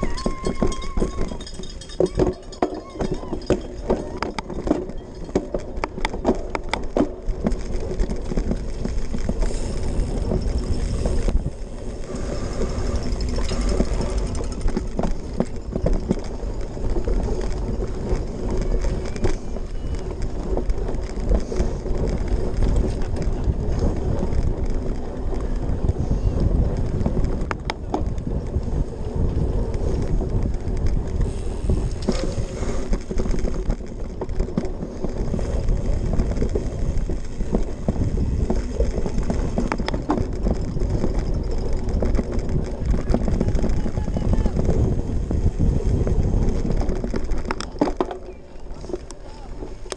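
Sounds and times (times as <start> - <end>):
bike rattling over bumps: 0.0 - 49.9
tyres rumbling on dirt: 0.0 - 49.9.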